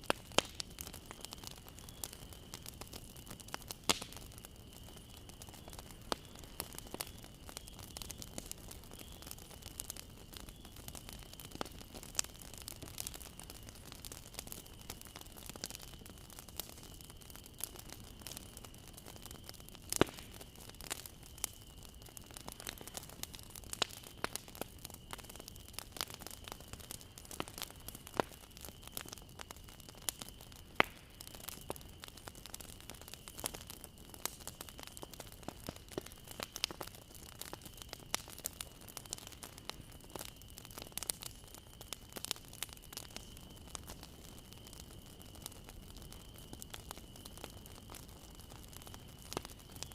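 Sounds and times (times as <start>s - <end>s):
bonfire crackling: 0.0s - 49.9s.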